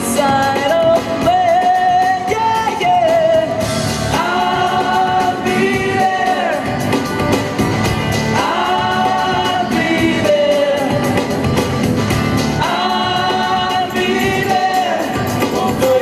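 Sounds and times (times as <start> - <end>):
acoustic guitars: 0.0 - 16.0
drum kit beat: 0.0 - 16.0
group singing: 0.0 - 16.0.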